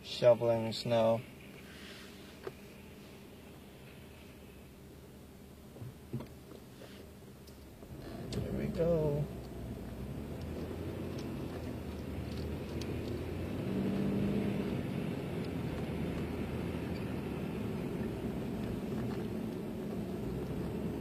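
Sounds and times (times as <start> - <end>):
car engine and road noise rumble: 0.0 - 21.0.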